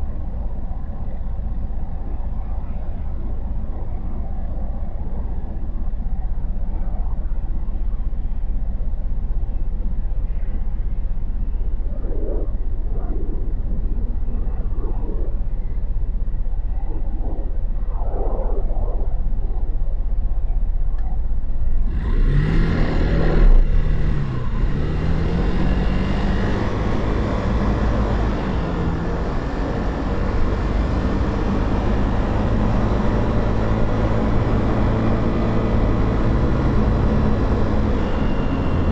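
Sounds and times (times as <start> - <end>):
rushing wind: 0.0 - 38.9.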